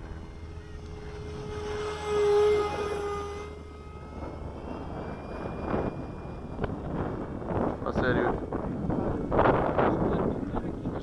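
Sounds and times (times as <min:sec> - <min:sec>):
model jet fan whining: 0:00.0 - 0:11.0.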